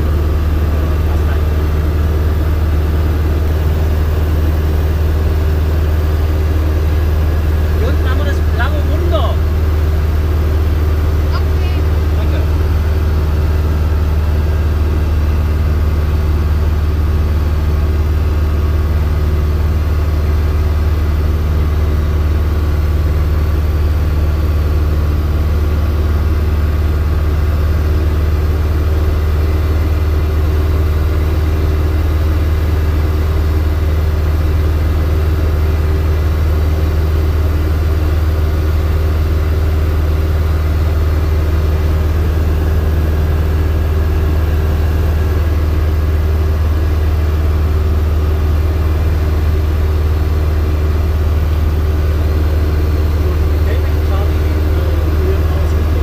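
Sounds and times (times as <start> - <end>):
aircraft engine droning: 0.0 - 56.0.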